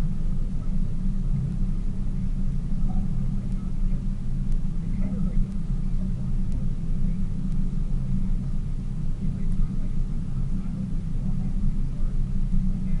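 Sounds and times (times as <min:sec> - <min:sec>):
boat engine low rumble: 0:00.0 - 0:13.0.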